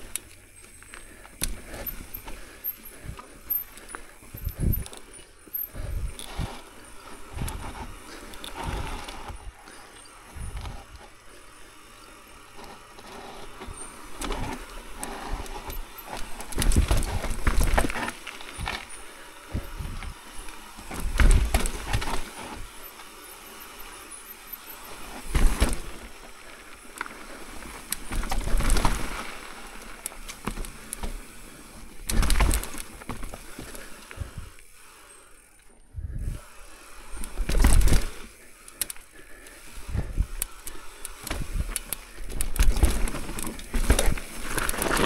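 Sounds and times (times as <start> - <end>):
bike rattling over bumps: 0.0 - 45.0
bike tyres rolling over dirt: 0.0 - 45.0.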